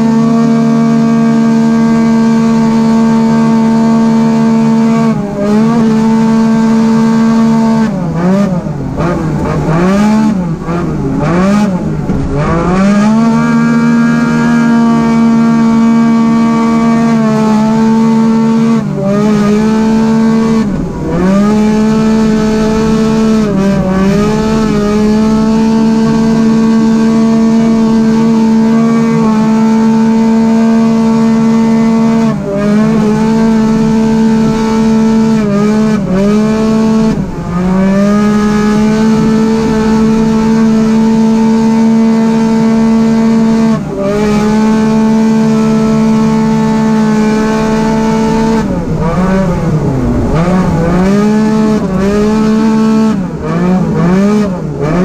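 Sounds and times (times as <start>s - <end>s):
engine revving at high revs: 0.0s - 55.0s.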